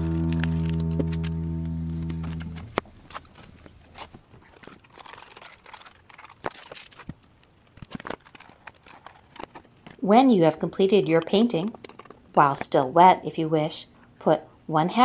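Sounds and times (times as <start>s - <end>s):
aluminium foil crinkling: 0.0s - 12.3s.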